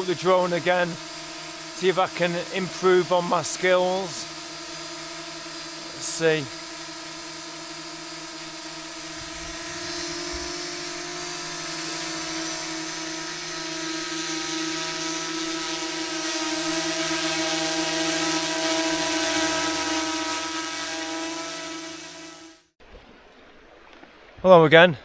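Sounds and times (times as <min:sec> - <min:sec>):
drone propellers whining: 0:00.0 - 0:22.7.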